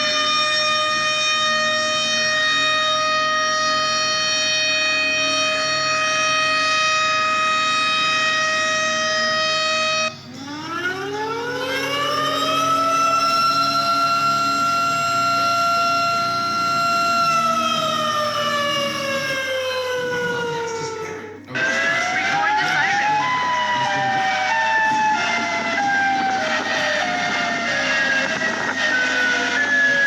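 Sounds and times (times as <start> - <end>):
tornado siren wailing: 0.0 - 30.0.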